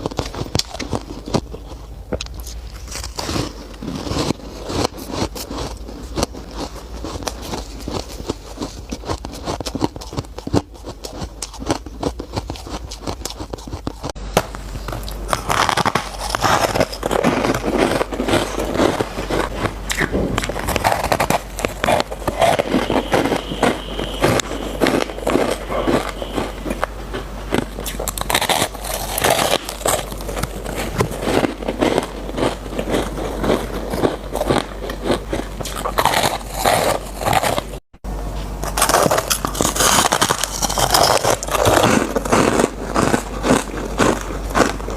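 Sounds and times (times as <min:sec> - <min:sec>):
chewing crunchy shaved ice: 0:00.0 - 0:37.8, 0:38.4 - 0:44.9.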